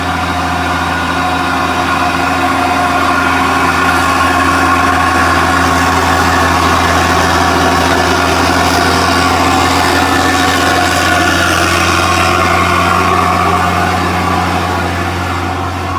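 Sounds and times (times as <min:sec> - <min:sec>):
droning tones: 0:00.0 - 0:15.9
vehicle engine idling: 0:00.0 - 0:15.9.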